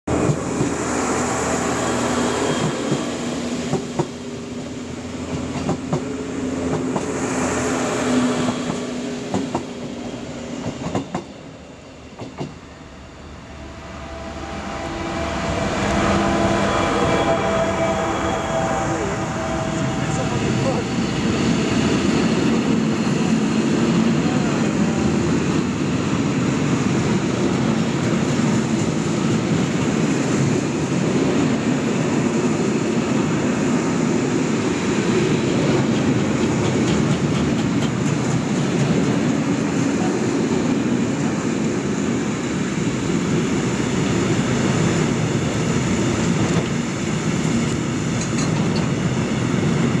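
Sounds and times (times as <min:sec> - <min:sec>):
steel wheels rumbling on rails: 0:00.1 - 0:50.0.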